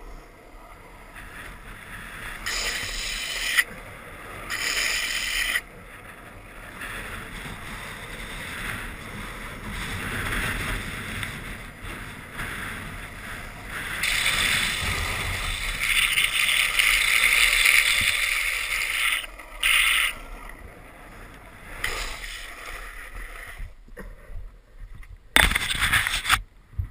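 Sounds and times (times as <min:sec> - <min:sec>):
wheels rolling over asphalt: 0:00.0 - 0:26.9
wind on microphone: 0:00.0 - 0:26.9.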